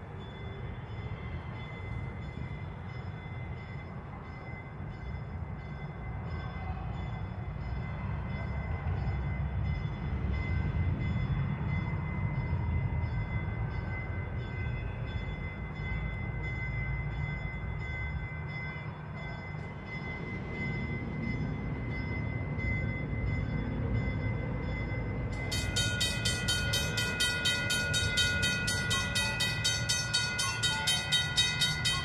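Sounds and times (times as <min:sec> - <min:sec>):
city street rumble: 0:00.0 - 0:32.0.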